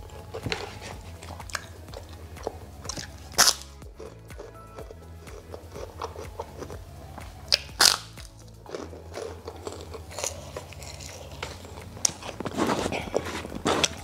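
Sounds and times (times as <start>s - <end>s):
cracker crunching: 0.0s - 14.0s
crackling chewing: 0.0s - 14.0s
low background music: 0.0s - 14.0s.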